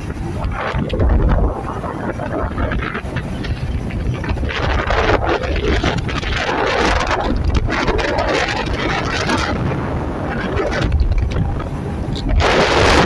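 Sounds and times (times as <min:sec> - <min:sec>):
low road rumble: 0:00.0 - 0:13.0
wind buffeting microphone: 0:00.0 - 0:13.0.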